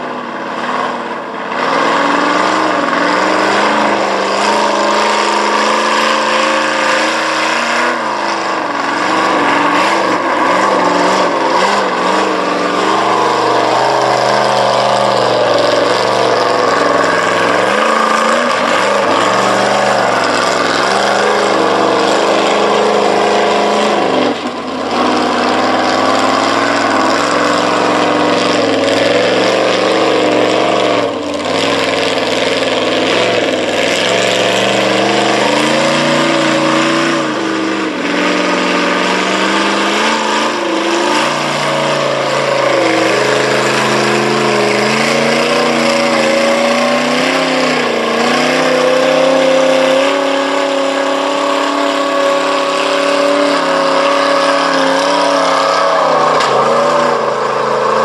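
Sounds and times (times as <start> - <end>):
truck engine revving high: 0.0 - 58.0.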